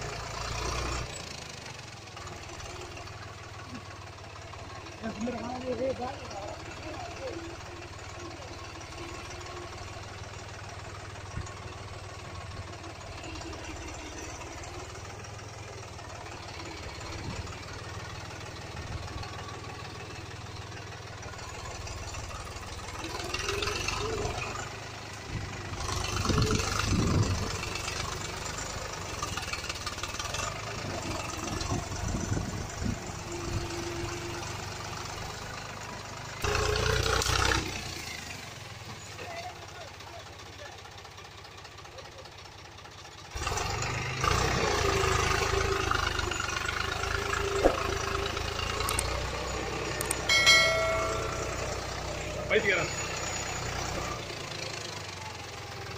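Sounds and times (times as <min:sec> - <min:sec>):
truck engine rumbling: 0:00.0 - 0:55.9.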